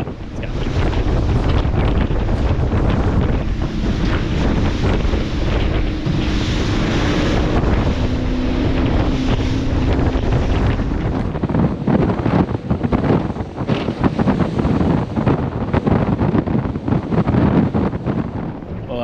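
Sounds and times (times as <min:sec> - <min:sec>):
boat motor: 0:00.0 - 0:19.0
boat through choppy sea: 0:00.0 - 0:19.0
wind noise on microphone: 0:00.0 - 0:19.0.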